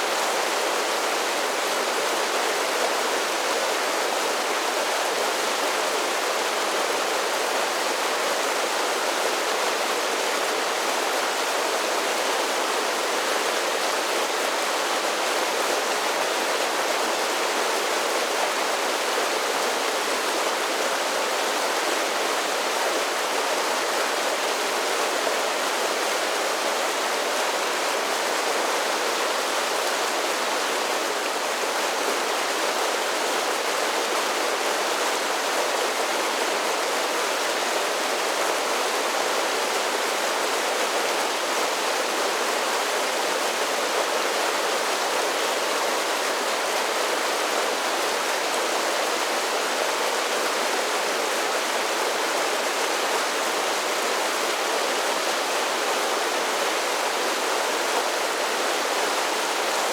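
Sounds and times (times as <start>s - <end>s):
creek cascading over small waterfalls: 0.0s - 59.9s.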